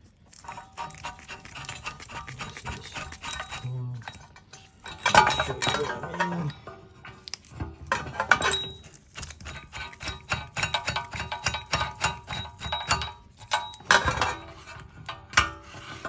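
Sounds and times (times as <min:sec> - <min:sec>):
metal tools clinking: 0:00.3 - 0:07.2, 0:07.9 - 0:14.9.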